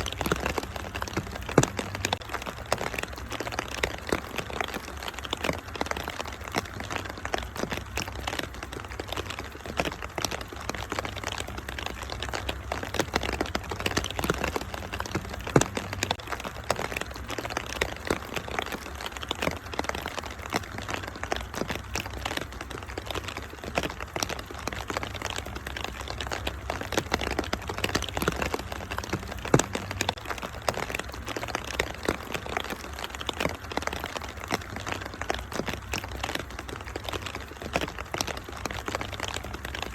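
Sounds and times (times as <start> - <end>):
rain pattering: 0.0 - 39.9
wood fire crackling: 0.0 - 39.9.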